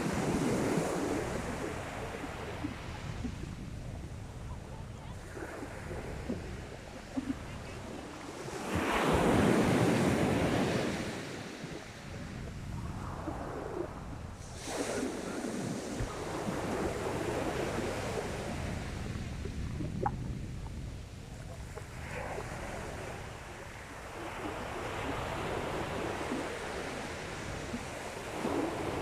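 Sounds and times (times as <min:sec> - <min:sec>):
sea waves breaking on beach: 0:00.0 - 0:29.0
wind: 0:00.0 - 0:29.0.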